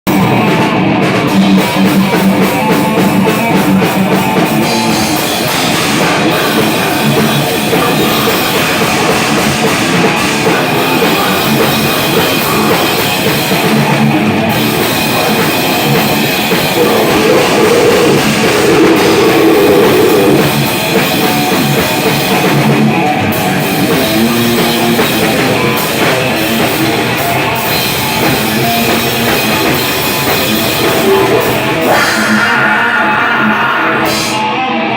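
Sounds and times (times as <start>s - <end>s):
drum kit: 0.0s - 34.9s
electric guitars: 0.0s - 34.9s
live rock band playing: 0.0s - 34.9s.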